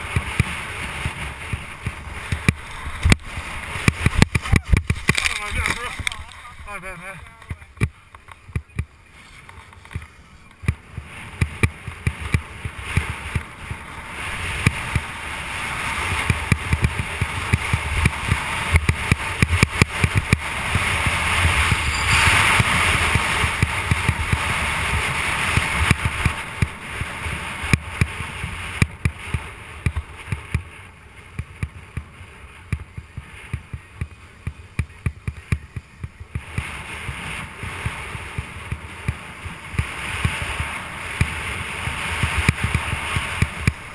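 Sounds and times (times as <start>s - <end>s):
snowboard scraping on snow: 0.0s - 7.4s, 8.8s - 32.6s, 35.6s - 43.9s.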